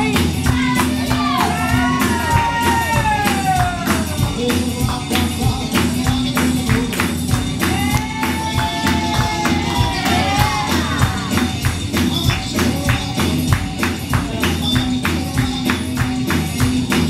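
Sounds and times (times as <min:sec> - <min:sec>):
person singing: 0:00.0 - 0:17.0
sharp percussion beat: 0:00.0 - 0:17.0.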